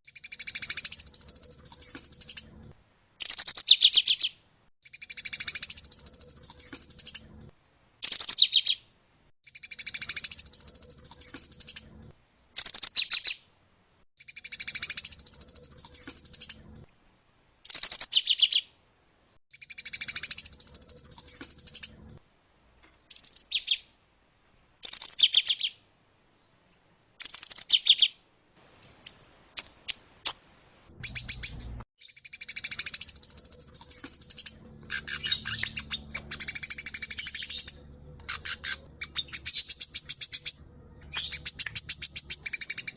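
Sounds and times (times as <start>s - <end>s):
songbird singing: 0.0s - 12.0s, 12.6s - 18.8s, 19.5s - 42.9s.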